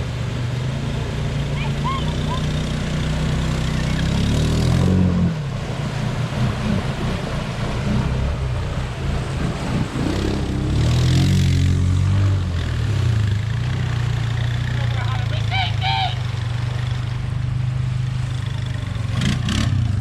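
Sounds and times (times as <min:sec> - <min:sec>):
quad bike engine revving: 0:00.0 - 0:17.2, 0:18.1 - 0:20.0.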